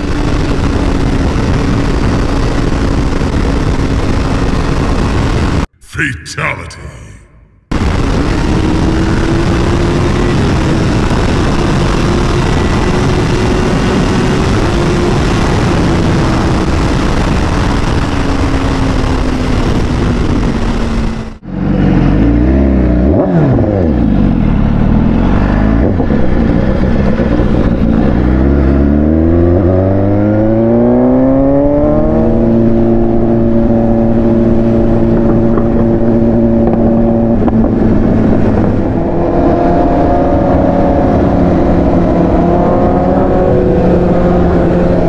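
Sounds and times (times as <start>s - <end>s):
motorcycle engine revving: 7.8s - 45.0s.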